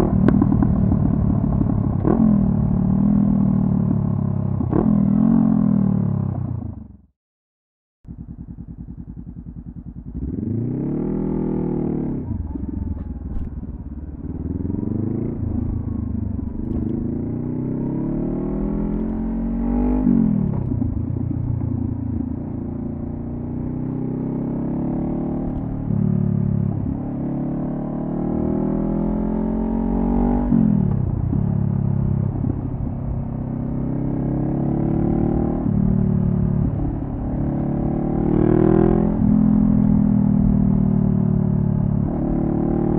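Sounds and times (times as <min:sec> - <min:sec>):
motorcycle engine revving on road: 0:00.0 - 0:07.1, 0:08.1 - 0:42.9.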